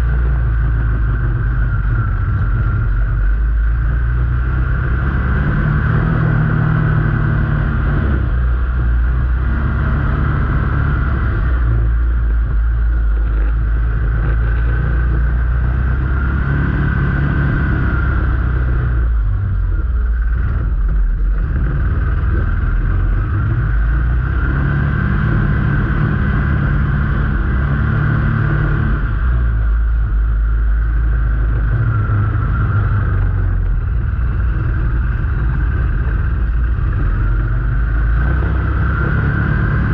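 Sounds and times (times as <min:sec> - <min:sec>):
vehicle engine driving: 0:00.0 - 0:39.9.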